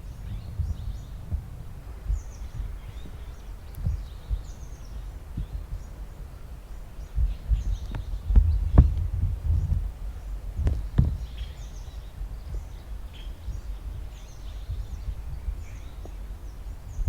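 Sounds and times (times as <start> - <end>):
faint bird chirps: 0.0 - 17.0
low rumbling background noise: 0.0 - 17.0.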